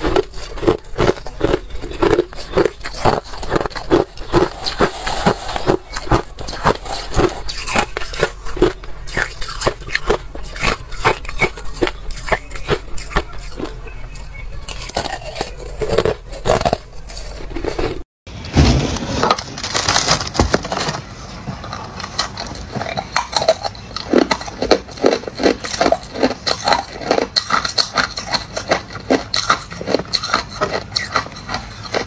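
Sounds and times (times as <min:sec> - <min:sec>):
ice crunched between teeth: 0:00.0 - 0:18.0, 0:22.0 - 0:32.0.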